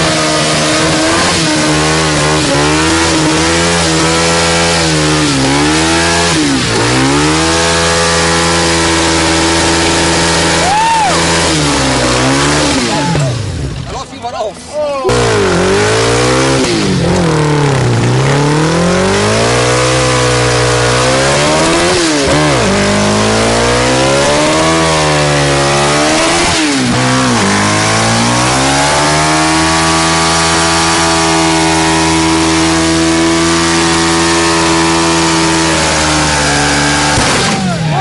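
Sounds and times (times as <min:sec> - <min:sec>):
motorcycle engine revving: 0:00.0 - 0:13.9, 0:15.1 - 0:38.0.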